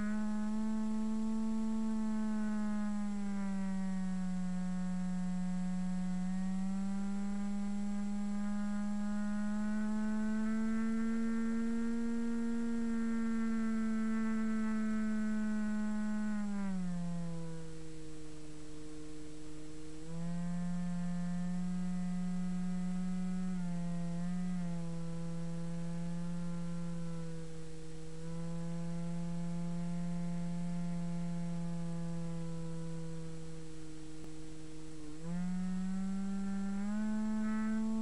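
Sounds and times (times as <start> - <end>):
model plane motor whining: 0.0 - 38.0.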